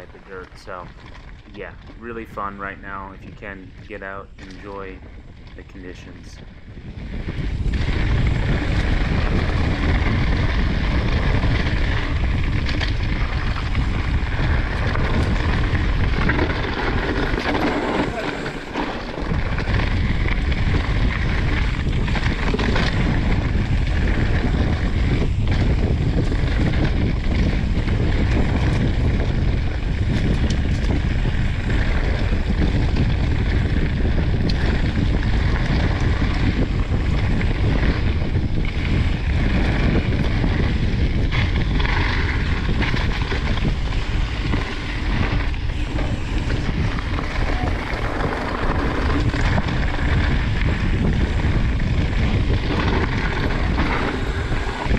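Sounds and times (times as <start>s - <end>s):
bike tyres rolling on dirt: 0.0s - 54.9s
wind buffeting microphone: 0.0s - 54.9s.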